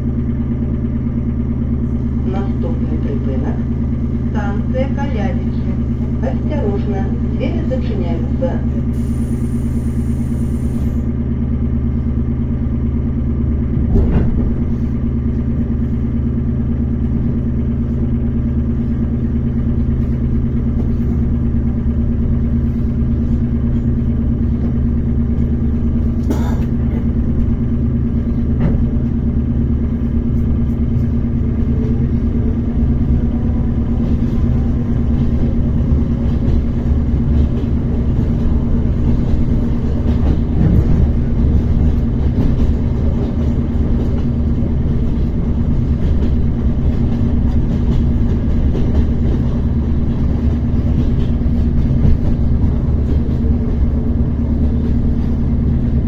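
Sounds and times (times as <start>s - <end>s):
train electrical hum: 0.0s - 56.0s
train running rumble: 0.0s - 56.0s.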